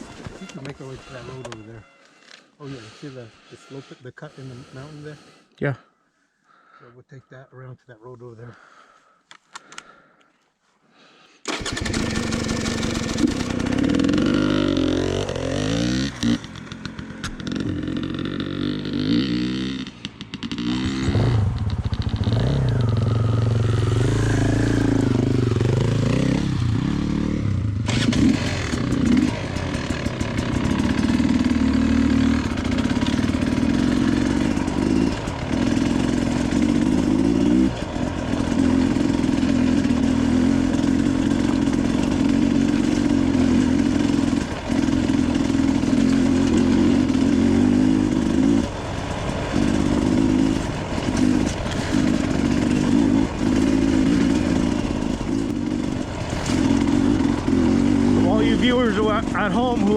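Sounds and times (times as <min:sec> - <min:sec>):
dirt bike engine: 0:00.0 - 0:05.5, 0:11.4 - 0:59.9.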